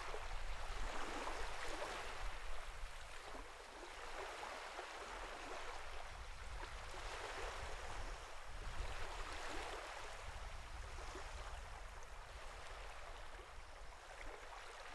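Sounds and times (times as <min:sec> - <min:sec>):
sea water lapping: 0:00.0 - 0:14.9.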